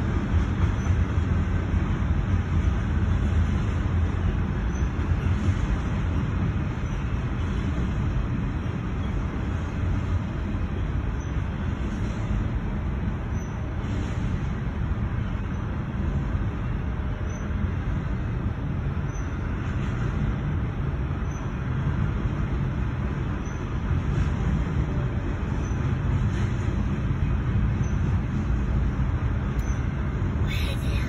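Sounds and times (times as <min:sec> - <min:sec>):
freight train rumble: 0:00.0 - 0:31.0.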